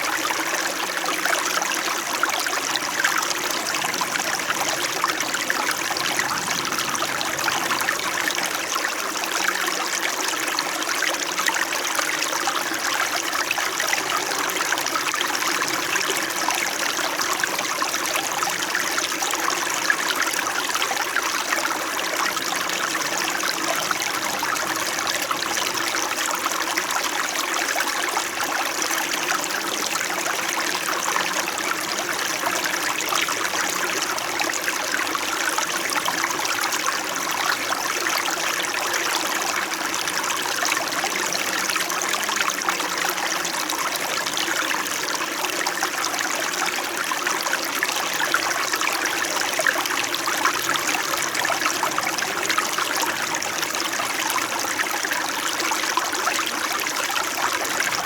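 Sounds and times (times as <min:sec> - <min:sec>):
stream babbling over rocks: 0:00.0 - 0:58.0.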